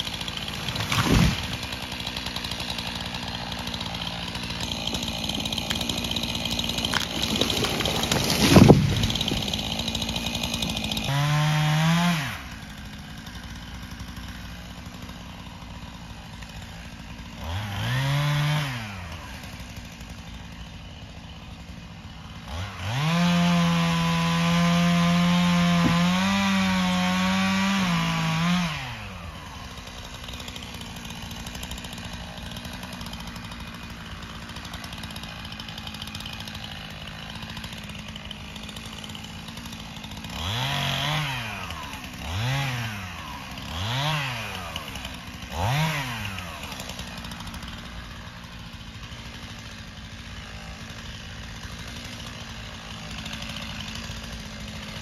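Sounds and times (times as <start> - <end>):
chainsaw cutting and idling: 0.0 - 55.0.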